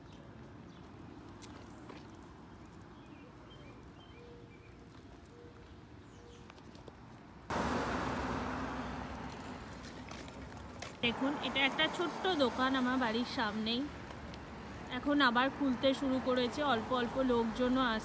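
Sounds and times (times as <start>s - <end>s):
quiet street ambience: 0.0s - 18.0s.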